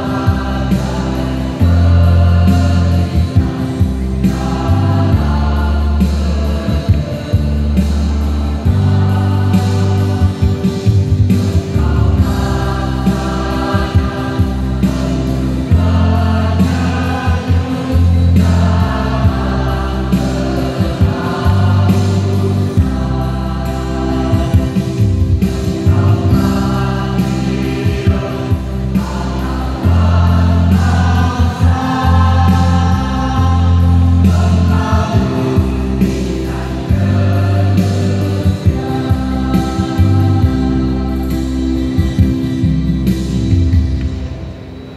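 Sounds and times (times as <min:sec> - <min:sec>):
choir singing in parts: 0:00.0 - 0:43.3.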